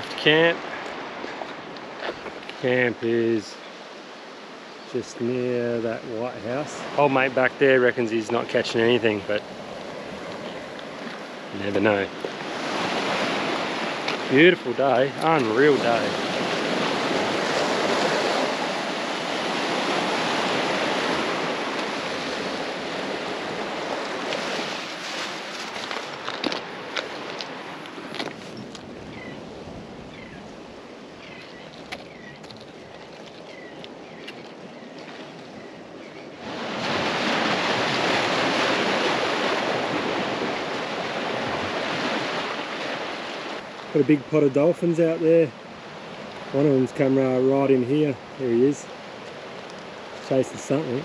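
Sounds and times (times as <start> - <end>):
ocean surf on rocky shore: 0.0 - 51.0.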